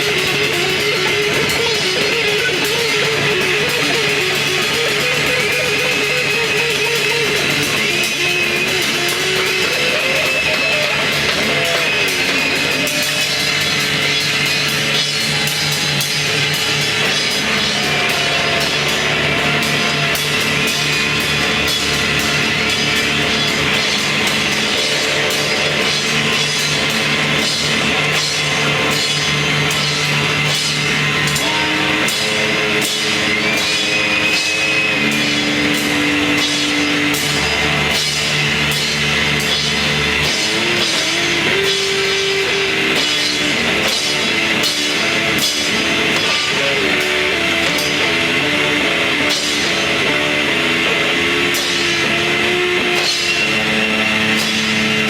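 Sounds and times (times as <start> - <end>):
bass guitar: 0.0 - 55.0
drum kit beat: 0.0 - 55.0
electric guitar riff: 0.0 - 55.0.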